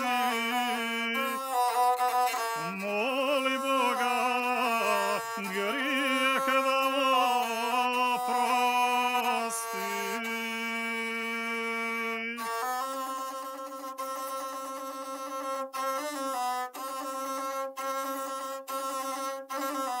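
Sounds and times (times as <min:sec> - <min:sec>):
bowed fiddle melody: 0:00.0 - 0:20.0.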